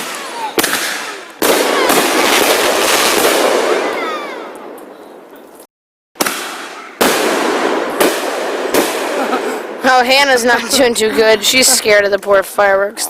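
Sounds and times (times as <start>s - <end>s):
fireworks bangs and crackling: 0.0s - 5.6s, 6.2s - 12.8s.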